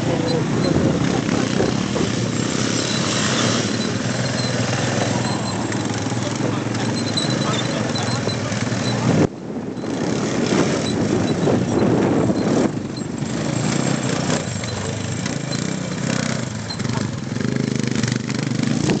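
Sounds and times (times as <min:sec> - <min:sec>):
quad bike engines revving: 0:00.0 - 0:19.0.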